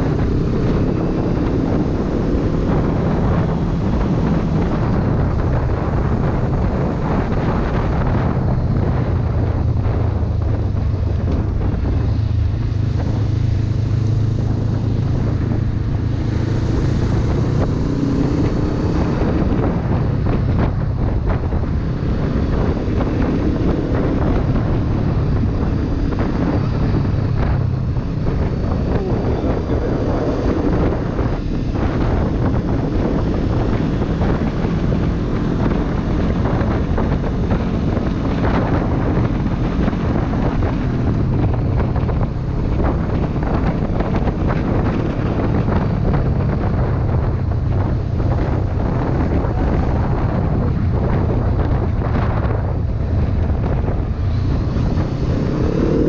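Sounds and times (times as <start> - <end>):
motorcycle engine running: 0.0 - 56.0
wind buffeting the microphone: 0.0 - 56.0.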